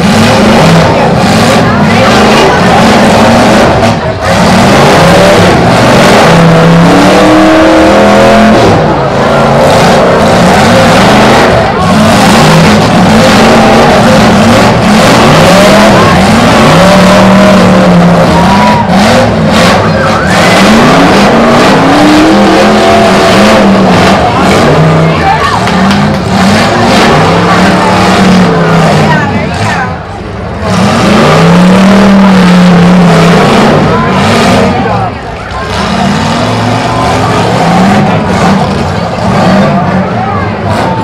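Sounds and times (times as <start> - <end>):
car engines revving hard: 0.0 - 41.0.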